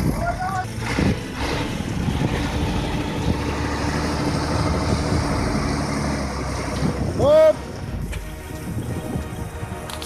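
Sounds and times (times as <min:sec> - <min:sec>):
vehicle engine running: 0:00.0 - 0:09.3
road and wind noise: 0:00.0 - 0:10.0.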